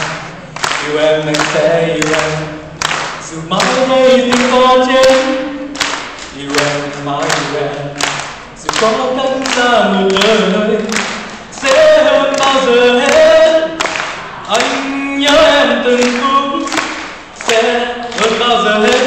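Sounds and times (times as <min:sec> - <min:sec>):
hands clapping: 0:00.0 - 0:19.0
man singing unaccompanied: 0:00.0 - 0:19.0.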